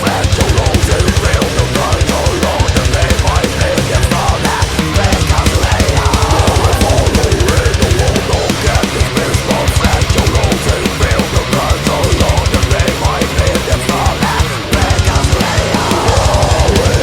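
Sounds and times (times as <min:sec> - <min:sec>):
heavy metal band playing: 0:00.0 - 0:17.0
rapid bass drum strokes: 0:00.0 - 0:17.0.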